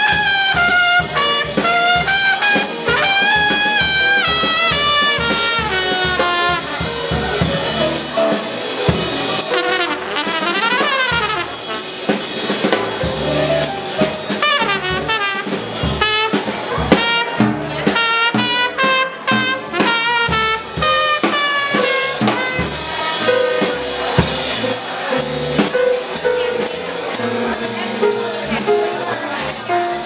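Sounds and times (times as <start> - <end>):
drum kit cymbal and snare: 0.0 - 30.0
trumpet playing phrases: 0.0 - 30.0
walking upright bass: 0.0 - 30.0.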